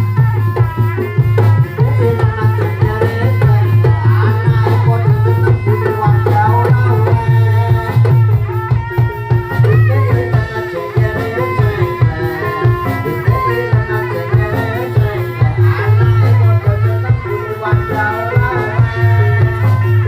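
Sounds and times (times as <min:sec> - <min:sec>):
hand drums playing: 0:00.0 - 0:20.0.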